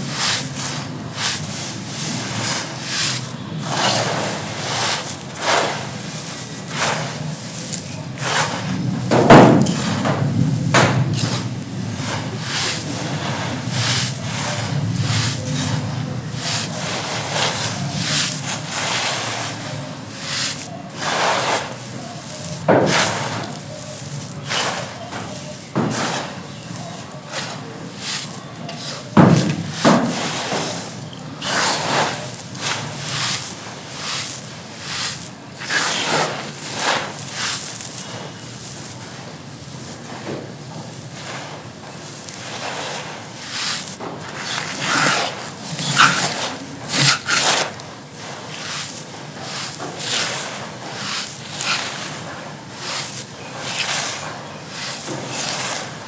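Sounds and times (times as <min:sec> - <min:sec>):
dry clay crumbling: 0:00.2 - 0:39.1, 0:41.9 - 0:56.0.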